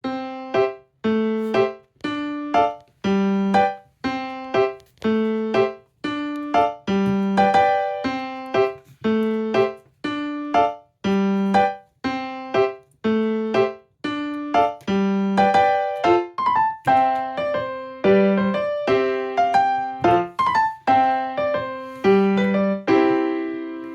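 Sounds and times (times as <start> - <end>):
piano chords: 0.0 - 23.9.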